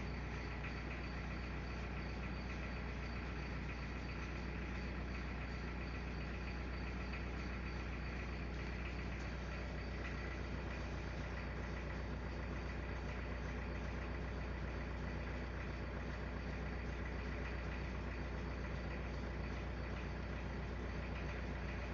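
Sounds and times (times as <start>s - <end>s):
low rumbling drone with flutter: 0.0s - 21.9s.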